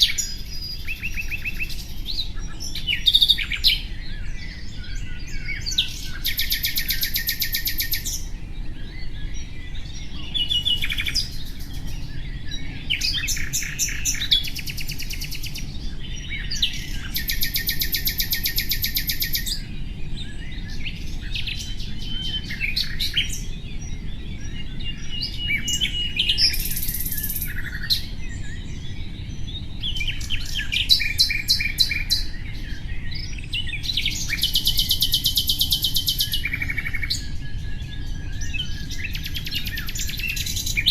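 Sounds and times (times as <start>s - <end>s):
nightingale singing trills: 0.0s - 40.9s.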